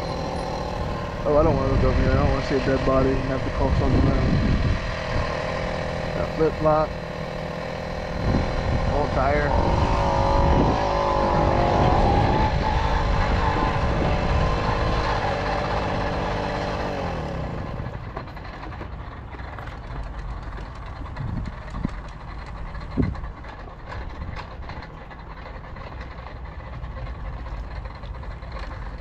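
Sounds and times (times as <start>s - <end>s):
moped engine running: 0.0s - 29.0s.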